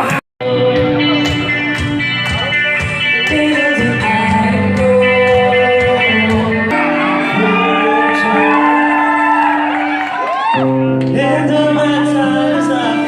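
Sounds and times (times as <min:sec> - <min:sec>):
guitar sustained notes: 0:00.0 - 0:13.0.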